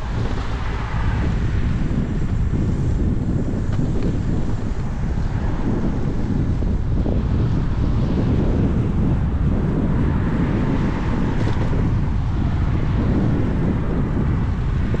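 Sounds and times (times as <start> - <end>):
wind rumbling over microphone: 0.0 - 15.0.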